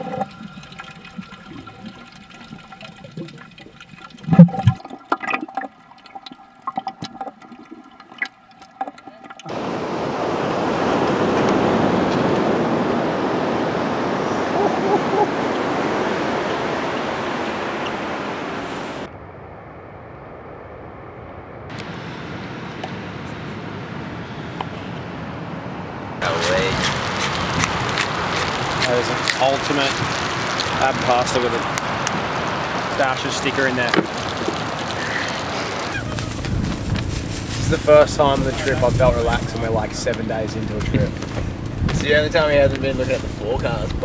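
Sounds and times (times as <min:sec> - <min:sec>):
rush of water-like noise: 0:00.0 - 0:19.1, 0:26.2 - 0:44.0.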